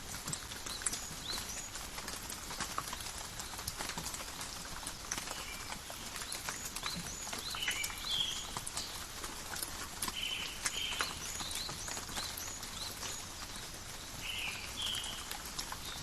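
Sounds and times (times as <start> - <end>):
rain dripping on leaves: 0.0 - 16.0.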